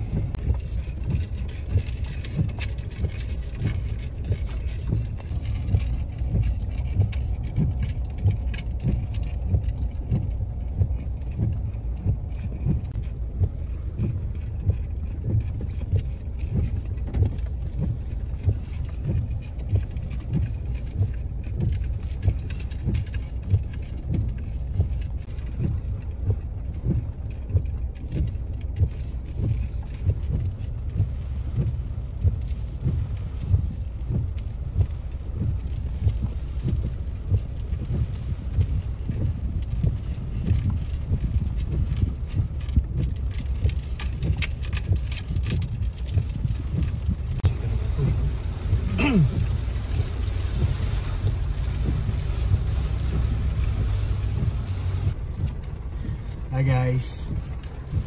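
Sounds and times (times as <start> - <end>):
knocks and rattles: 0.0 - 55.8
vehicle rumble on rough road: 0.0 - 58.0.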